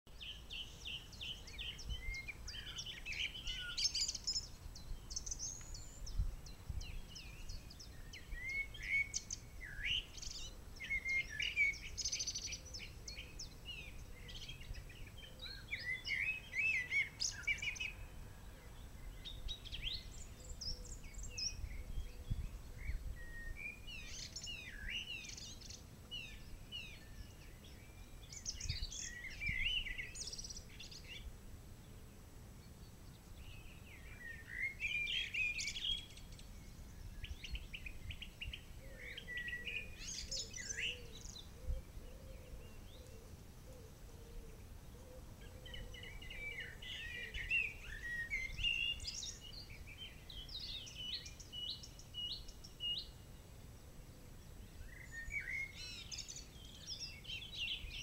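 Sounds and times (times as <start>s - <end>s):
songbirds singing and chirping: 0.1s - 58.0s.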